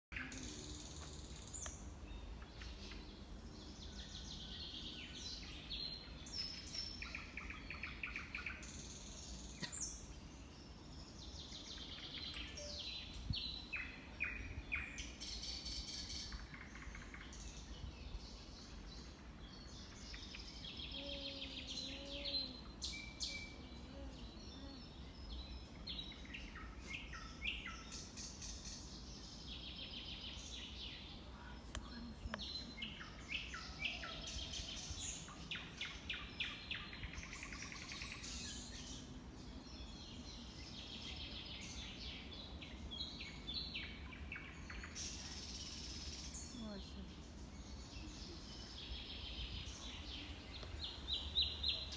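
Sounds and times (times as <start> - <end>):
songbirds singing and chirping: 0.1 - 51.9.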